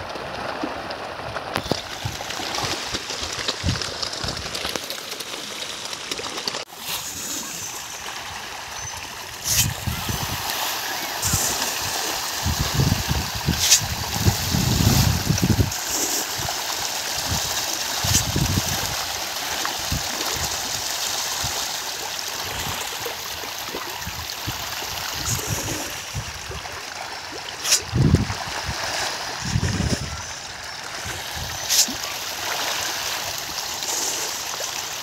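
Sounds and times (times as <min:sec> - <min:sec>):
fish splashing at water surface: 0:00.0 - 0:35.0.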